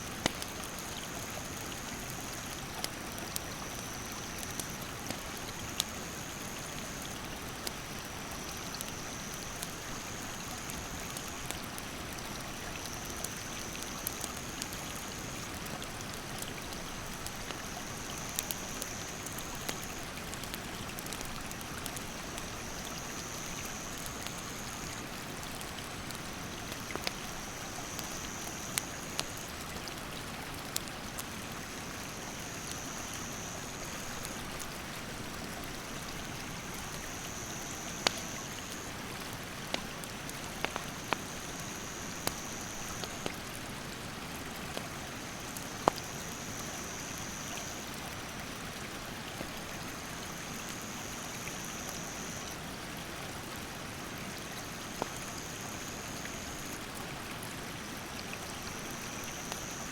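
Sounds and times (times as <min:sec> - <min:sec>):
rushing stream: 0:00.0 - 0:59.9
campfire crackling and popping: 0:00.1 - 0:48.1, 0:54.6 - 0:56.9.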